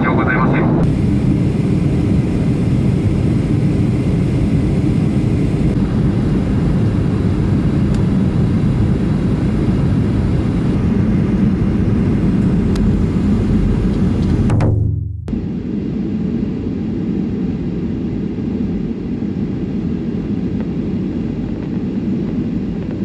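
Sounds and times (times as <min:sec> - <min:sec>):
jet engines and rushing air: 0:00.0 - 0:23.0.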